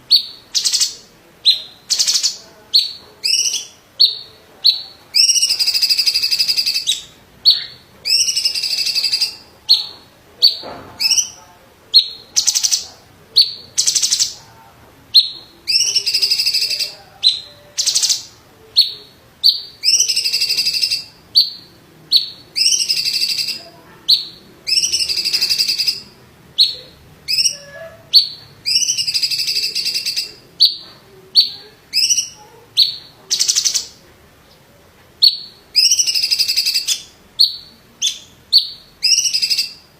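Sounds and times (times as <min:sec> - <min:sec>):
bird singing sharp notes: 0:00.1 - 0:12.8, 0:15.1 - 0:34.6.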